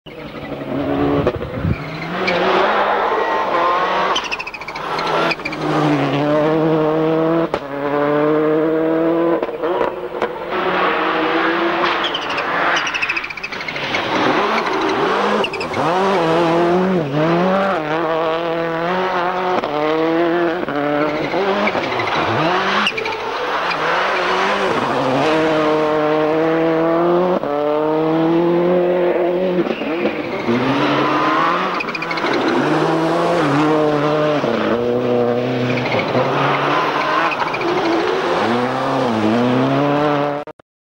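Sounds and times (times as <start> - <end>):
rally car engine revving: 0.1 - 40.5.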